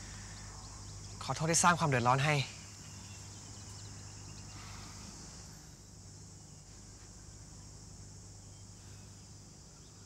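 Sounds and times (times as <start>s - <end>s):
insects chirring: 0.0s - 10.0s
low steady hum: 0.0s - 10.0s.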